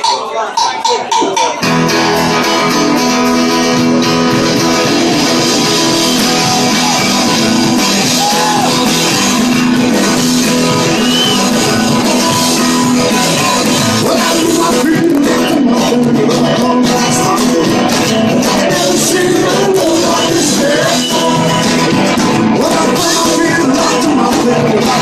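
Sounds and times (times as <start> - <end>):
drums: 0.0 - 25.0
strummed acoustic guitar: 0.9 - 25.0
electric guitar: 1.6 - 25.0.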